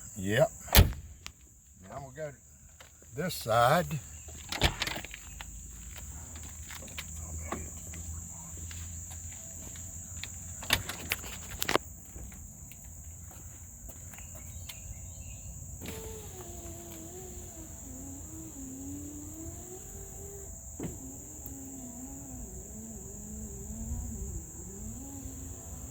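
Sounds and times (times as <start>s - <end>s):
high-pitched insect chirping: 0.0s - 25.9s.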